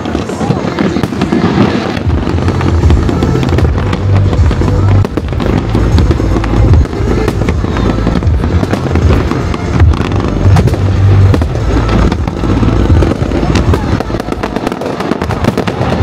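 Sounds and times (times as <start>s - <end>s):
fireworks bangs and crackles: 0.0s - 16.0s
deep booming rumble: 2.1s - 16.0s.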